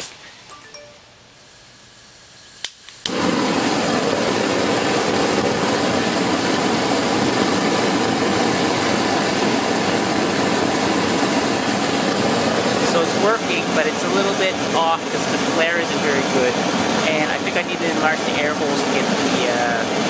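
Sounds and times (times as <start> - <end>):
gas burner rushing hiss: 1.4 - 20.0.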